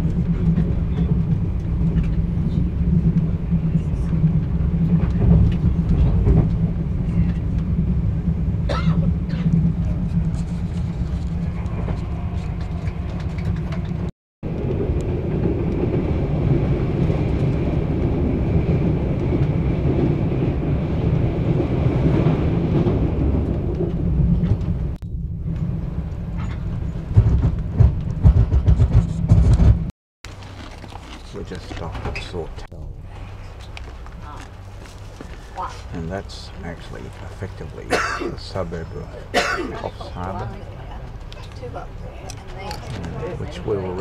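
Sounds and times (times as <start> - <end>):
train carriage rumble: 0.0 - 44.0.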